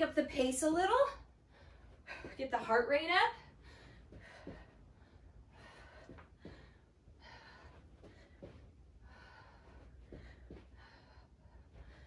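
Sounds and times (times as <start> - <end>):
woman breathing heavily: 1.0 - 12.0.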